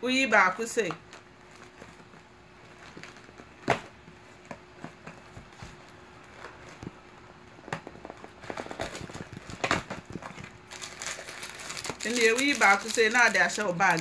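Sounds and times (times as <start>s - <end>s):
faint steady hum: 0.0s - 14.0s
plastic packaging clicks and crinkles: 0.8s - 14.0s.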